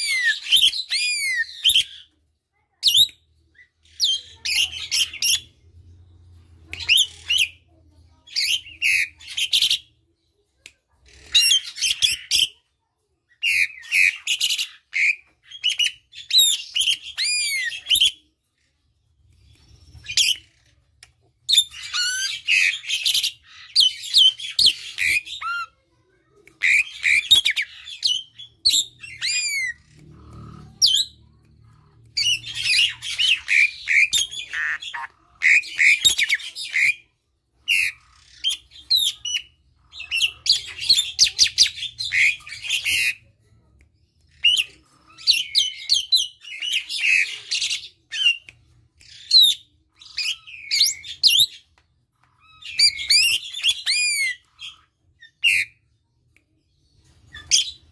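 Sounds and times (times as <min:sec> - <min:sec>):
starling singing chattering and whistling: 0:00.0 - 0:02.1, 0:02.9 - 0:05.8, 0:06.7 - 0:07.7, 0:08.3 - 0:10.0, 0:13.4 - 0:18.4, 0:19.2 - 0:25.8, 0:26.6 - 0:43.2, 0:44.3 - 0:51.8, 0:52.4 - 0:55.9, 0:57.0 - 0:57.9.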